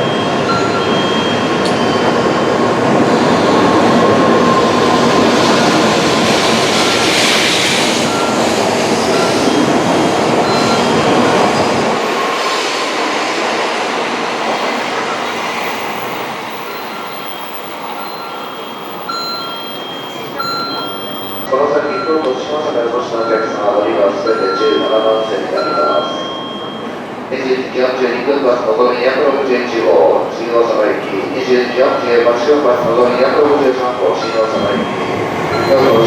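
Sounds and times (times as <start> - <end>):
train rumbling with whine: 0.0 - 36.0.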